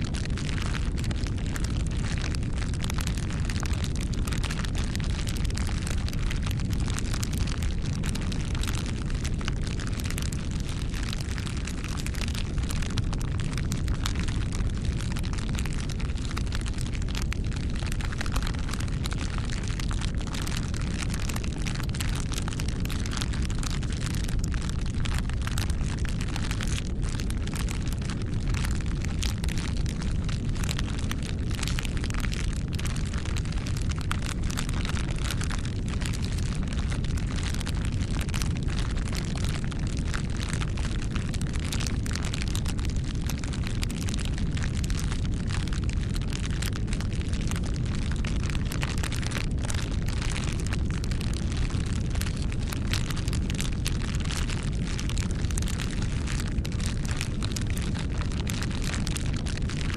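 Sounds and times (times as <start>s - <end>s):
low rumble of flames: 0.0s - 59.9s
wood crackling and popping: 0.0s - 59.9s.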